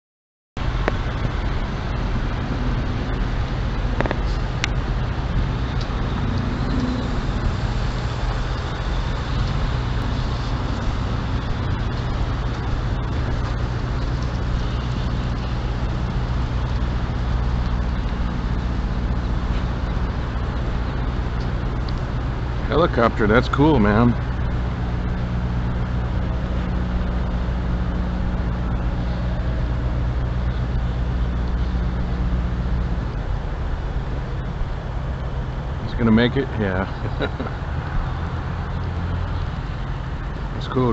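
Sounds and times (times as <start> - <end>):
diesel truck engines rumbling: 0.6 - 40.9.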